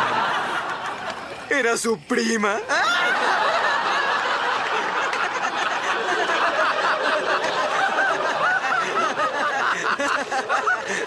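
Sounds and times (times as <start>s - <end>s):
studio audience laughing: 0.0s - 1.4s, 2.6s - 11.0s.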